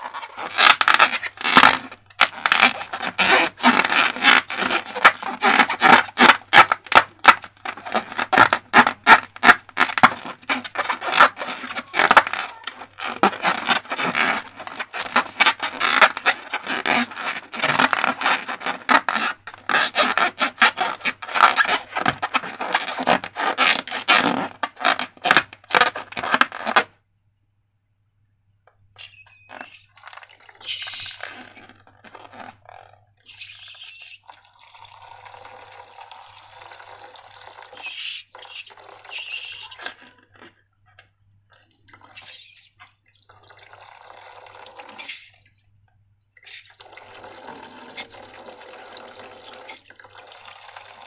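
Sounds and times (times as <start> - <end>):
slime being stirred: 0.0 - 26.5, 29.0 - 40.7, 41.4 - 45.6, 46.2 - 51.0.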